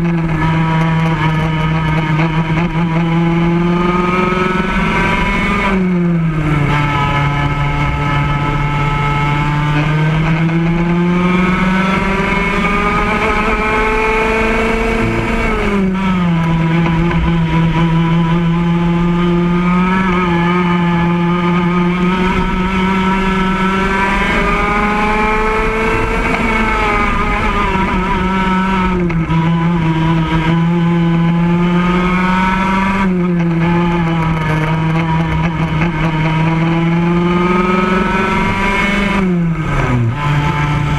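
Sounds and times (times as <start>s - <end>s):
kart engine revving: 0.0s - 40.9s.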